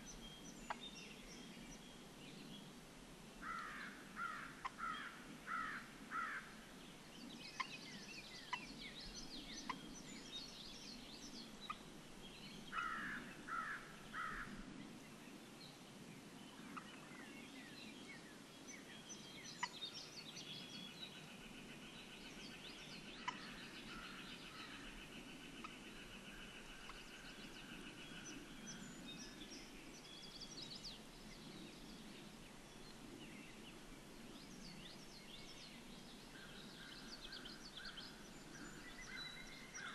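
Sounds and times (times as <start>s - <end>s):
songbird chirps: 0.0s - 39.9s.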